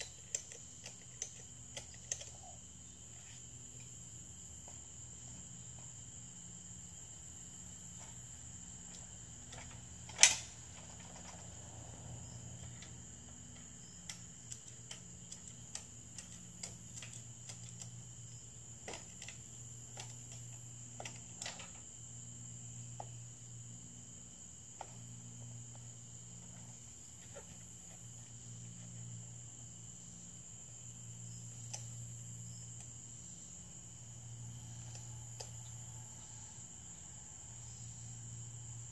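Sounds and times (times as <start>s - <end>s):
crickets chirring: 0.0s - 38.9s.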